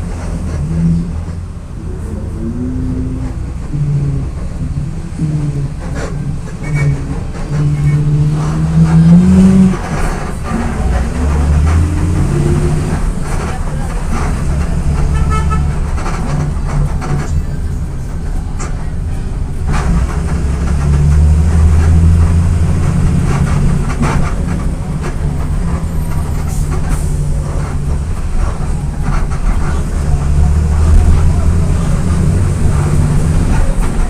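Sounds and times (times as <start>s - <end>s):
bus diesel engine droning: 0.0s - 34.0s
body rattles and clicks: 3.1s - 34.0s.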